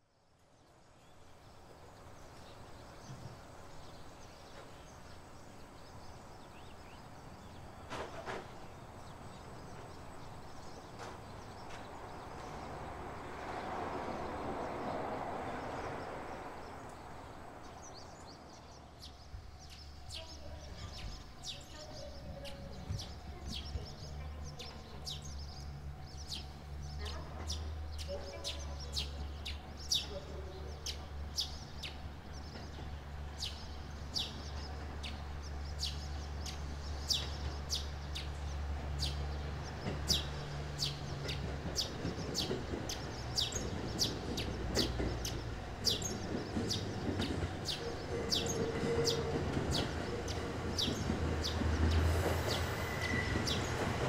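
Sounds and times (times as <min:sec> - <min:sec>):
small birds chirping: 0:00.3 - 0:54.0.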